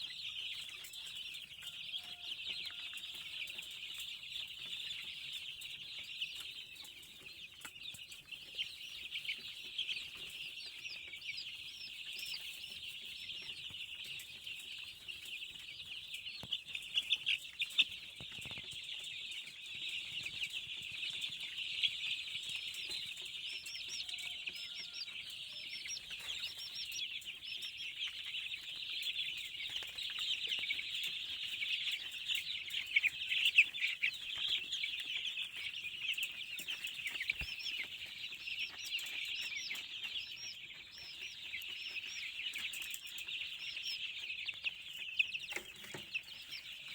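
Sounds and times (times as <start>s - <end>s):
chicks peeping in chorus: 0.0s - 46.9s.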